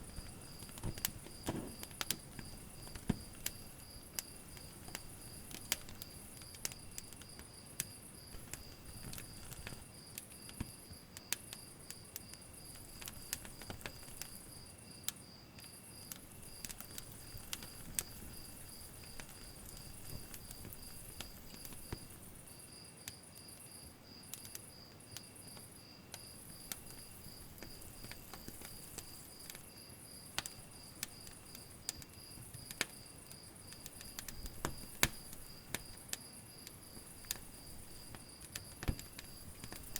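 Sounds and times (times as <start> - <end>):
cricket chirping: 0.0 - 39.9
wood fire crackling: 0.0 - 39.9.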